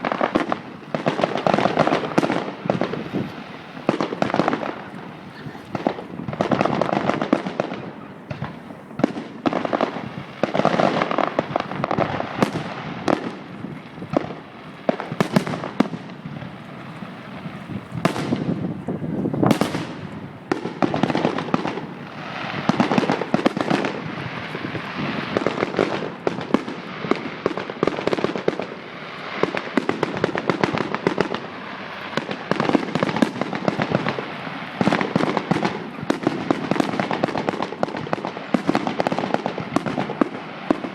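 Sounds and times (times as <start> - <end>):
fireworks crackling: 0.0 - 40.9
fireworks sharp bangs: 0.0 - 40.9.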